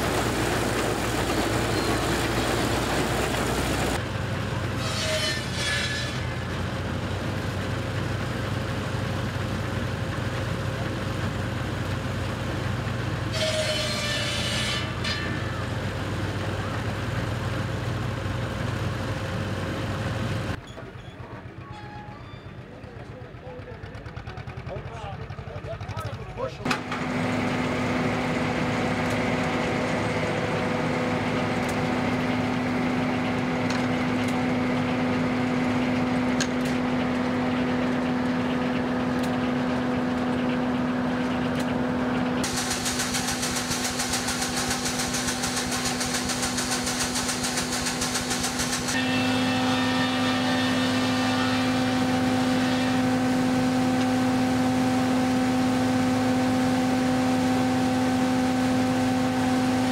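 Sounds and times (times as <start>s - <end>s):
sawmill running: 0.0s - 20.6s, 21.2s - 59.9s.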